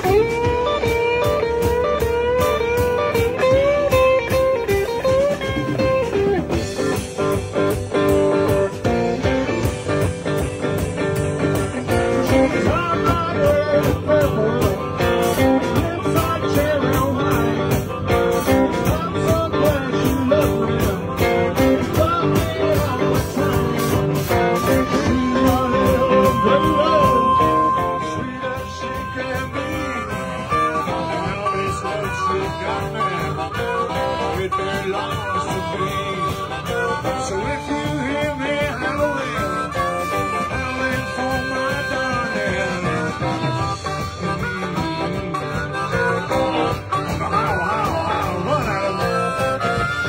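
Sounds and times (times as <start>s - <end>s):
blues band playing: 0.0s - 50.0s
electric guitar with bent notes: 0.0s - 50.0s.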